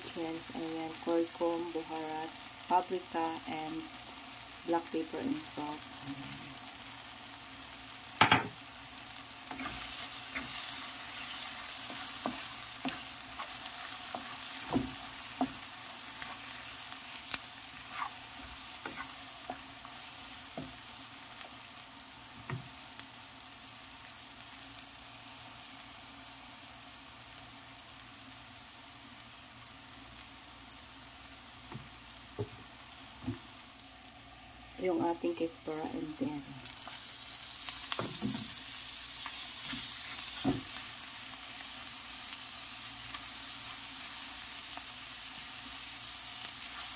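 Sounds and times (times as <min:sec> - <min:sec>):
food sizzling in oil: 0:00.0 - 0:46.9.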